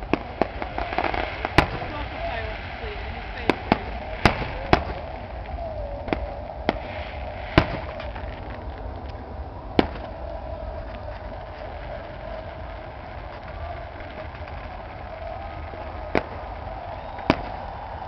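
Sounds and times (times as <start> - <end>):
faint fireworks crackling: 0.0 - 18.0
fireworks bangs: 0.0 - 18.0
steady background din: 0.0 - 18.0.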